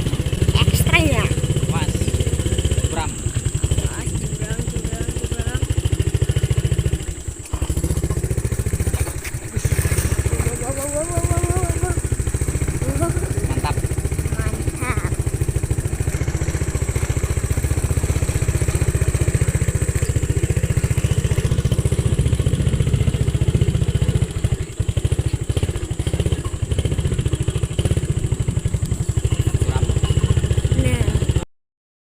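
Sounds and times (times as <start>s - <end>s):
motorcycle engine running: 0.0s - 31.5s.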